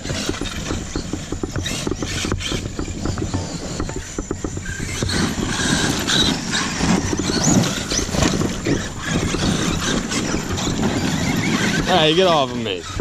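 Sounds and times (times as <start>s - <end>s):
electric motor whine: 0.0s - 13.0s
tyres crunching on gravel: 0.0s - 13.0s.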